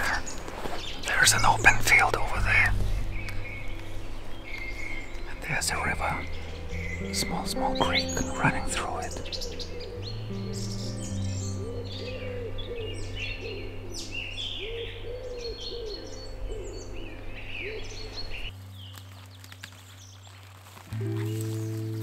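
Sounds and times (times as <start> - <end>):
low hooting bird calls: 0.0 - 18.5
low music drone: 0.0 - 20.0, 20.9 - 22.0
small birds chirping: 0.0 - 22.0.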